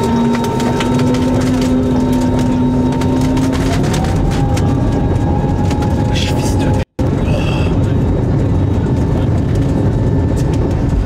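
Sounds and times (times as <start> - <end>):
airliner engine and airflow rumble: 0.0 - 11.0
rising whine: 0.0 - 11.0.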